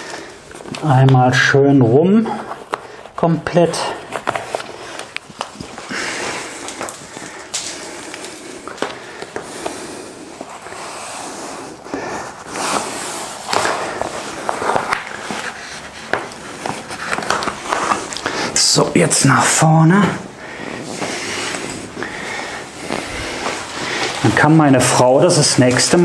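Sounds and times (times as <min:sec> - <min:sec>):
plastic membrane crinkling: 0:00.0 - 0:26.0.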